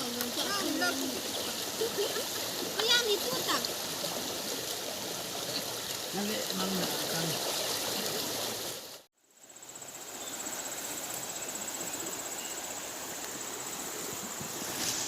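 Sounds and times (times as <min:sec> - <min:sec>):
insects trilling: 0:00.0 - 0:15.0
outdoor background noise: 0:00.0 - 0:15.0.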